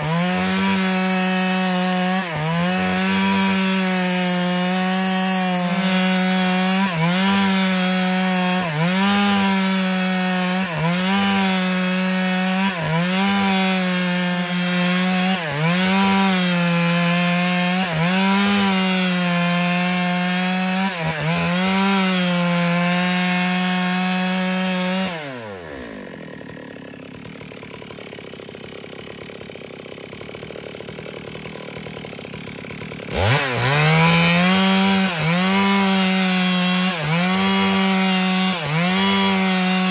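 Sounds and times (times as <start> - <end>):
chainsaw cutting log: 0.0 - 39.9
chainsaw idling: 0.0 - 39.9.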